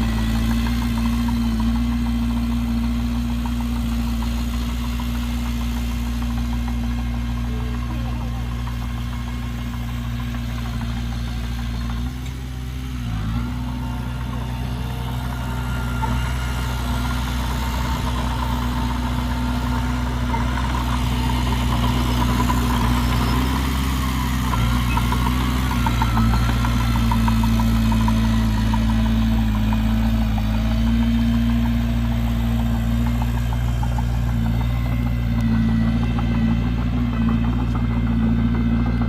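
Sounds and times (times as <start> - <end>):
heavy diesel engine droning: 0.0 - 39.0.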